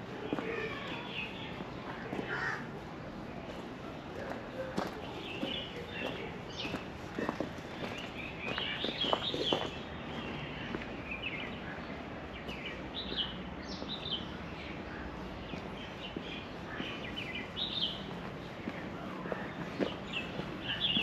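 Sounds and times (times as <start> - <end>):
birds chirping: 0.0 - 21.0
outdoor background hum: 0.0 - 21.0.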